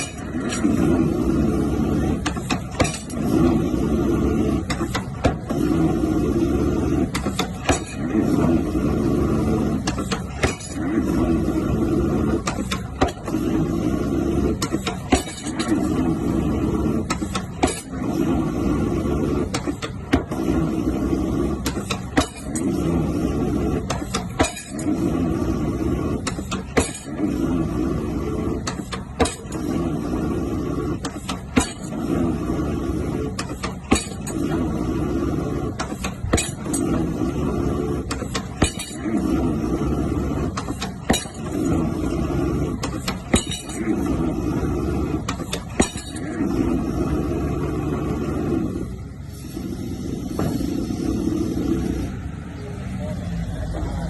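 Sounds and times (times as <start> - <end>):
pile driver rumble: 0.0 - 52.4.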